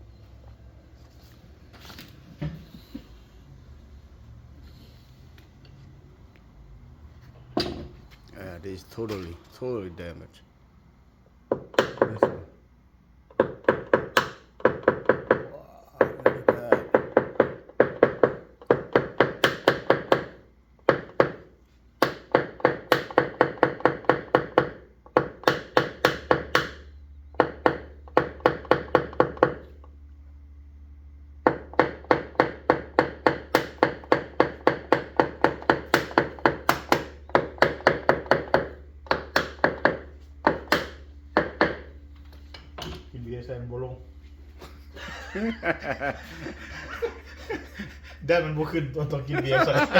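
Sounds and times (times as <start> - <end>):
steady low hum: 0.0 - 22.7, 23.3 - 49.9.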